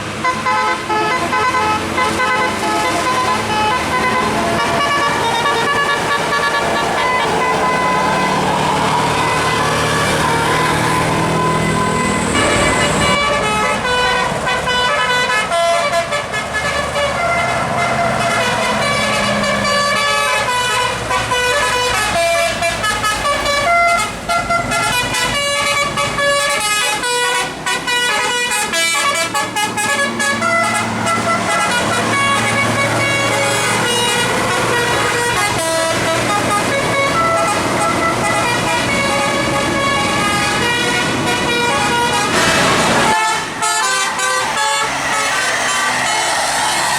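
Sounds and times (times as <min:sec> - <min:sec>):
bus engine running: 0:00.0 - 0:46.9
multi-tone bus horn melody: 0:00.0 - 0:46.9.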